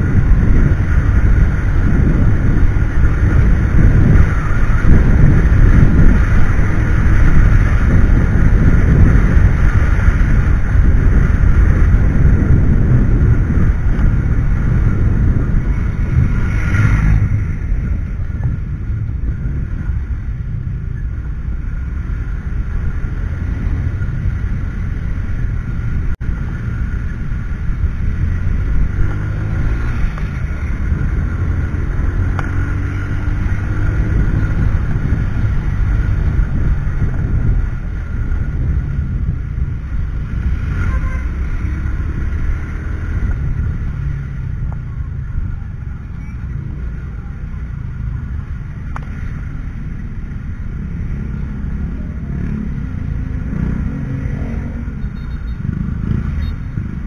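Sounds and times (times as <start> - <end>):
wind on microphone: 0.0 - 47.9
road noise: 0.0 - 57.0.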